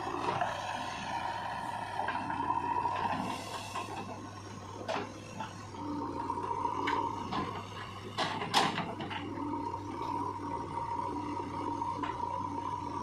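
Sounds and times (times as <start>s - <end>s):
backhoe arm whine: 0.0s - 13.0s
diesel engine running under load: 0.0s - 13.0s.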